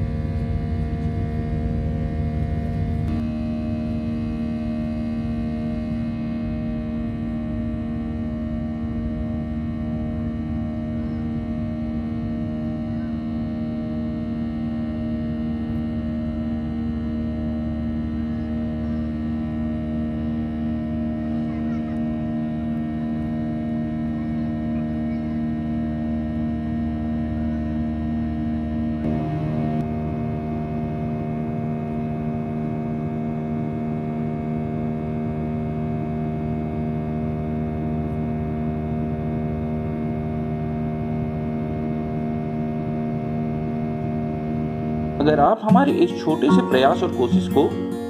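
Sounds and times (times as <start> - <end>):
jet engines droning in cabin: 0.0 - 48.0.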